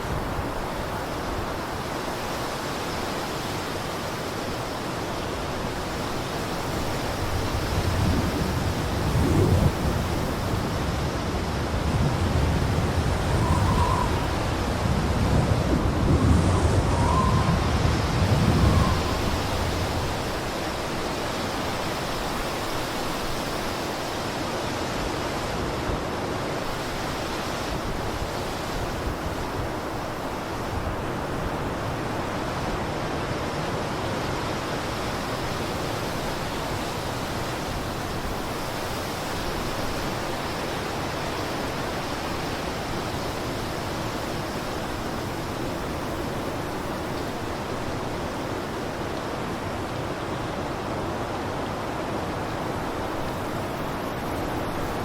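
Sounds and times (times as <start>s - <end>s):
blizzard wind blowing: 0.0s - 55.0s.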